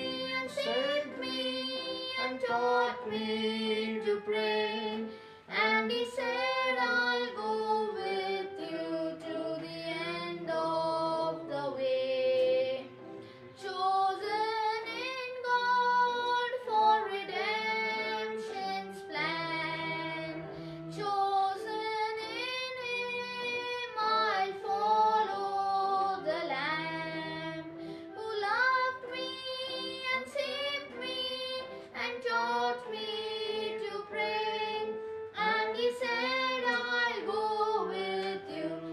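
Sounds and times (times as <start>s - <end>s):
boy singing a hymn: 0.0s - 13.0s, 13.6s - 38.9s.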